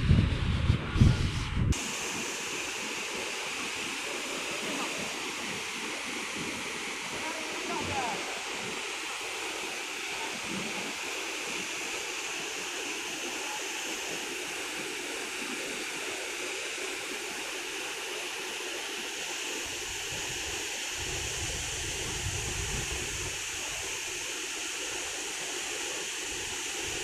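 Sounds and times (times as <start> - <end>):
waterfall rushing: 1.8 - 27.0.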